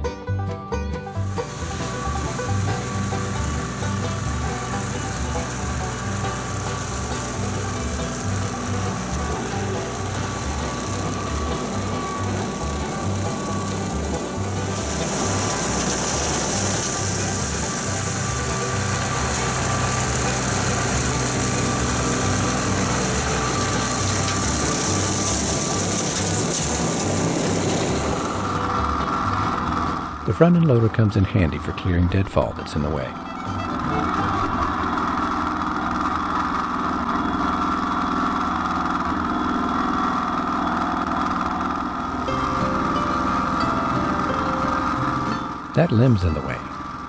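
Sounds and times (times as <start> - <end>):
diesel tractor running: 0.0 - 47.0
rotary cutter cutting grass: 1.2 - 30.6, 33.1 - 45.9.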